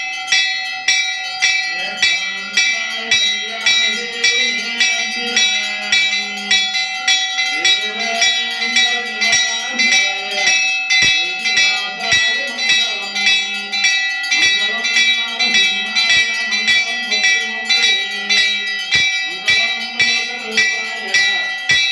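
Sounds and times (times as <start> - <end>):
bells clanging: 0.0 - 21.9.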